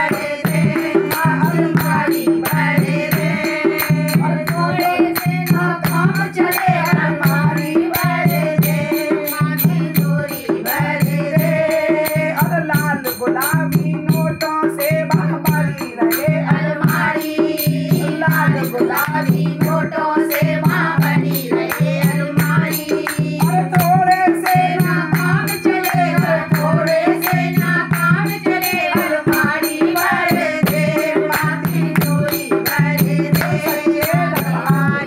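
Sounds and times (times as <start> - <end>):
woman singing devotional song: 0.0 - 35.0.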